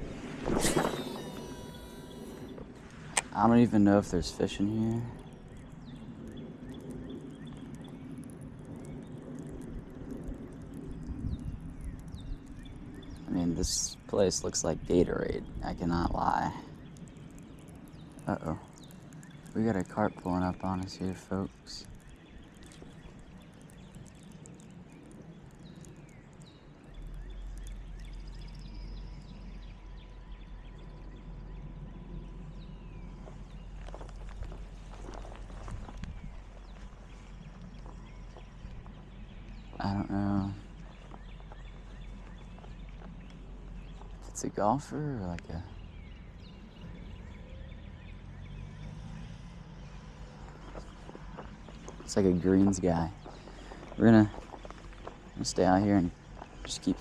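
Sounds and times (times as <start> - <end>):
faint bird chirps: 0.0 - 57.0
steady low rumble: 0.0 - 57.0.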